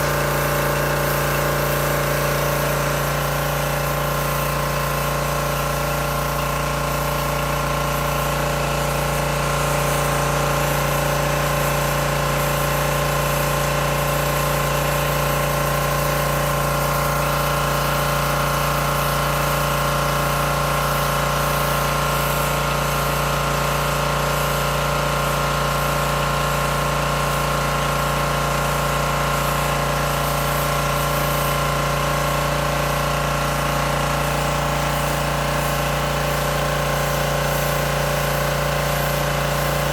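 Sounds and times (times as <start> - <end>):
high-pressure water spray hiss: 0.0 - 39.9
pressure washer engine drone: 0.0 - 39.9.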